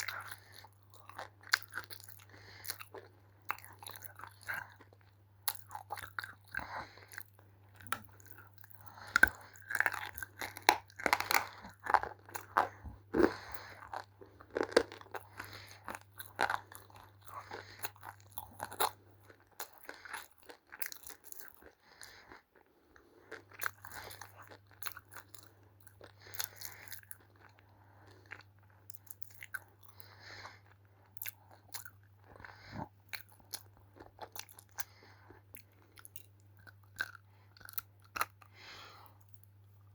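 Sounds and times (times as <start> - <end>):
crunchy chewing: 0.0 - 39.6.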